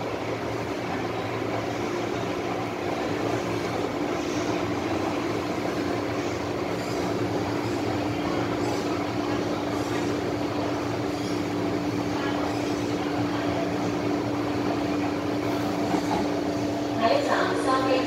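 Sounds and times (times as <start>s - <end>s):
loud steady train howl: 0.0s - 18.0s.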